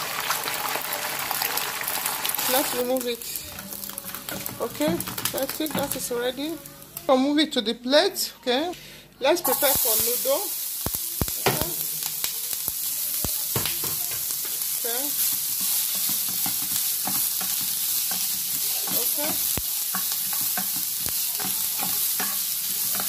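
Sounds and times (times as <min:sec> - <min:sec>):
vegetables sizzling in a frying pan: 0:00.0 - 0:07.2, 0:09.3 - 0:23.0.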